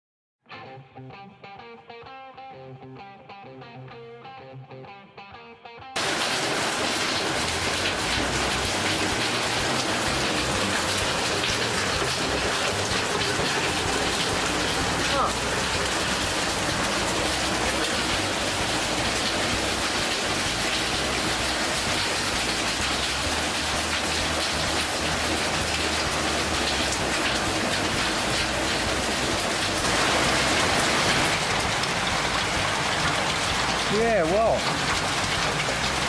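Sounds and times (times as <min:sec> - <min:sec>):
heavy rain pattering: 0:06.0 - 0:36.0.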